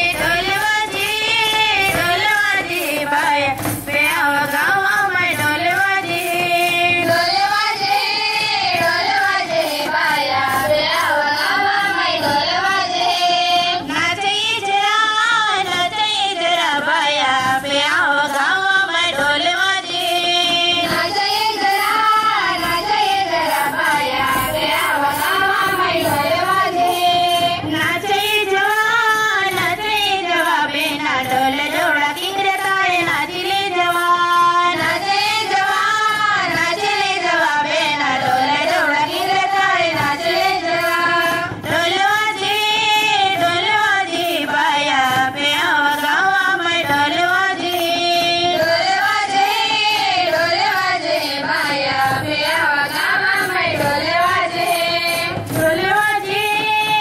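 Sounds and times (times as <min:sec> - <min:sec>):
steady percussion beat: 0:00.0 - 0:57.0.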